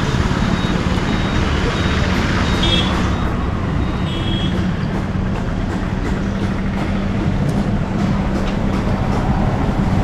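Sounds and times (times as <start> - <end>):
road traffic noise: 0.0 - 10.0
vehicle engine humming: 0.0 - 10.0.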